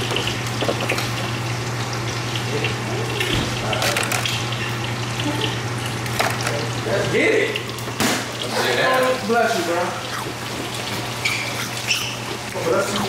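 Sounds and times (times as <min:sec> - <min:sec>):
ice maker humming and hissing: 0:00.0 - 0:13.0.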